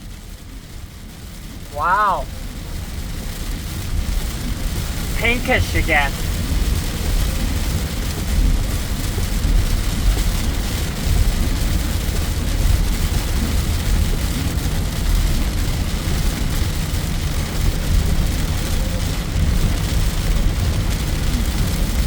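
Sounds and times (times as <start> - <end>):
heavy rain falling: 0.1 - 22.0.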